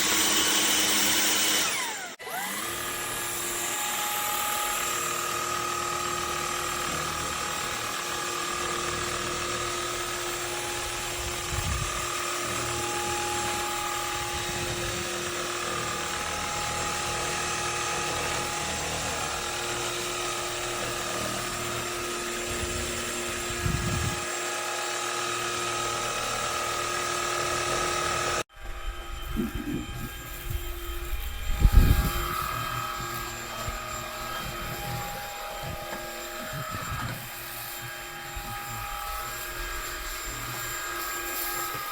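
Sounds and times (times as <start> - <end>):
vacuum cleaner motor whine: 0.0 - 41.9.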